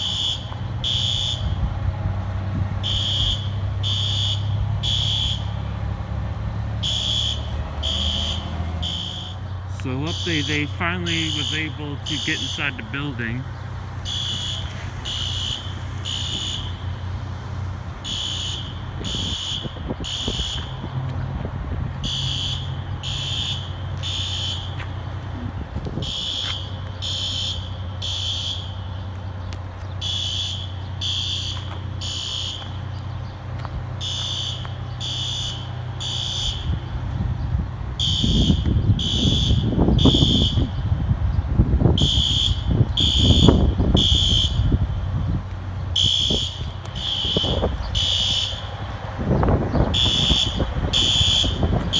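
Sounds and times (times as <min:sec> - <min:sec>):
fire alarm horn blasts: 0:00.0 - 0:21.1, 0:22.0 - 0:29.2, 0:30.0 - 0:33.2, 0:34.0 - 0:41.1, 0:41.8 - 0:51.9
wind buffeting microphone: 0:00.0 - 0:27.1, 0:35.7 - 0:51.9.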